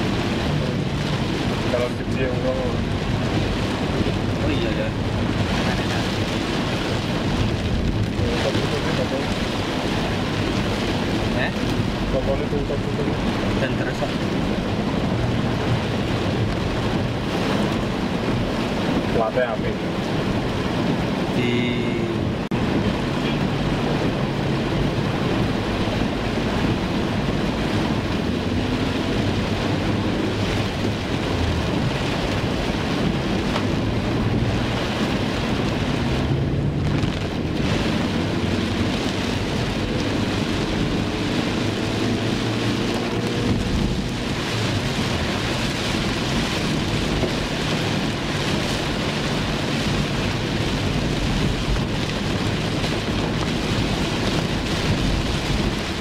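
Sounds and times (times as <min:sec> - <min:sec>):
car running rumble: 0:00.0 - 0:56.0
heavy rain drumming on car roof: 0:00.0 - 0:56.0.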